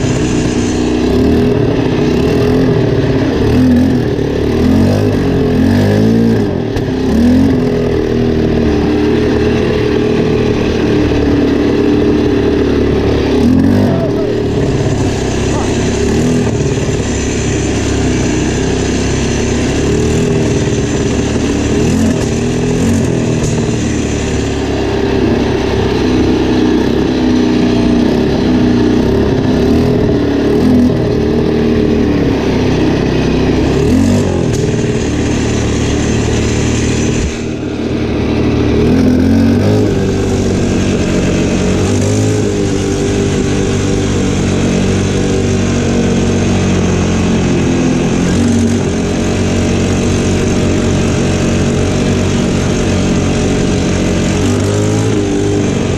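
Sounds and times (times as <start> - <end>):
quad bike engine revving: 0.0 - 55.9.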